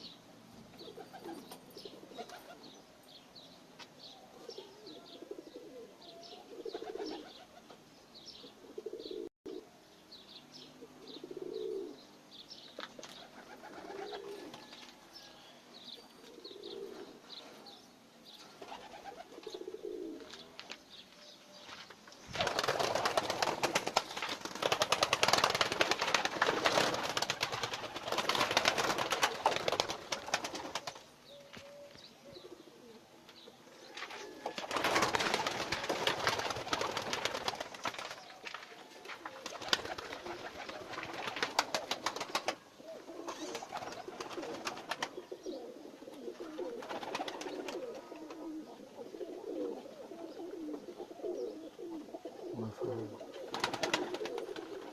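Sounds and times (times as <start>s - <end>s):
small birds chirping: 0.0s - 54.9s
pigeons cooing: 0.7s - 2.8s, 4.2s - 9.8s, 10.6s - 21.0s, 22.3s - 54.9s.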